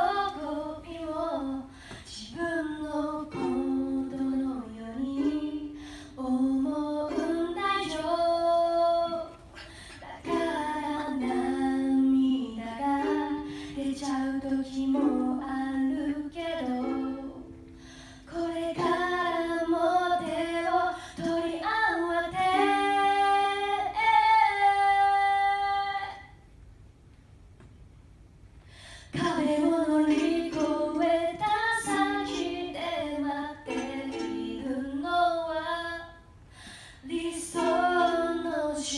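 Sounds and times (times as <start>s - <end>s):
woman singing: 0.0s - 17.6s, 18.2s - 26.4s, 29.1s - 36.3s, 37.0s - 38.9s.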